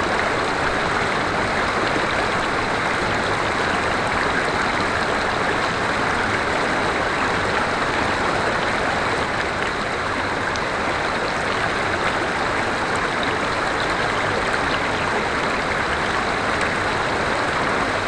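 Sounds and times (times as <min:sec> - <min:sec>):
river water flowing over rocks: 0:00.0 - 0:18.0.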